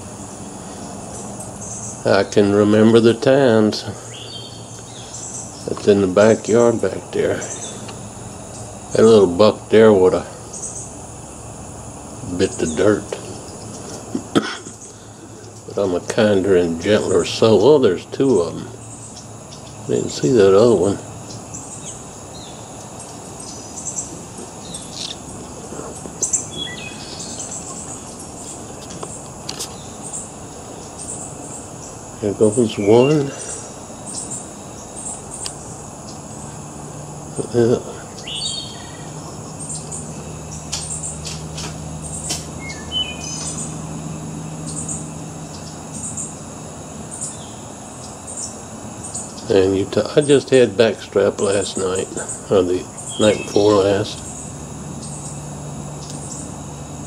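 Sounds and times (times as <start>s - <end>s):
insects trilling: 0.0s - 57.0s
low steady hum: 0.0s - 57.0s
songbirds chirping and whistling: 0.0s - 57.0s.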